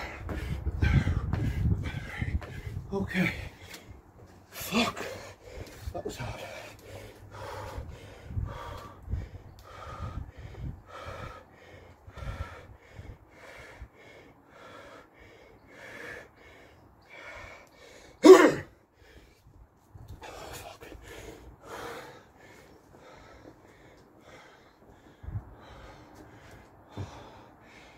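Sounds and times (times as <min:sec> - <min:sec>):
man breathing hard and gasping: 0:00.0 - 0:27.9.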